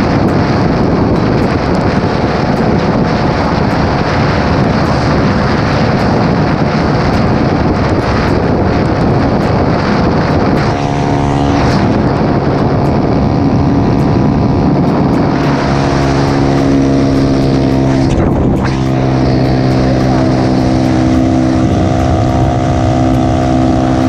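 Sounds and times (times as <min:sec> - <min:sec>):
dense rushing noise: 0:00.0 - 0:24.0
motorcycle engine running hard: 0:00.0 - 0:24.0.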